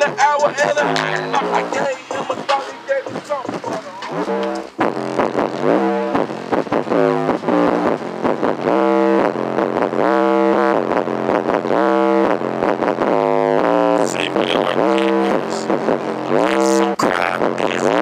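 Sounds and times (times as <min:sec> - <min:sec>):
bass-heavy music through subwoofers: 0:00.0 - 0:18.0.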